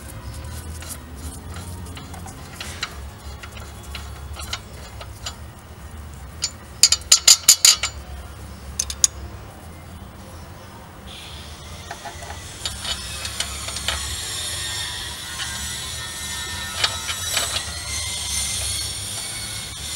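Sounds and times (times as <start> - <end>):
steel nuts clinking: 0.0 - 8.1, 8.8 - 9.2, 11.8 - 19.9.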